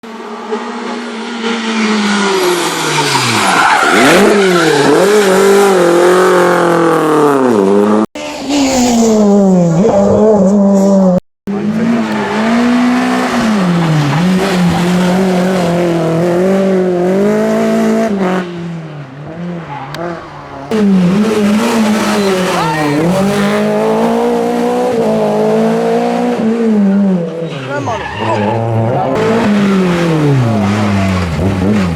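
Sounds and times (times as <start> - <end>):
rally car engine revving: 0.1 - 31.9.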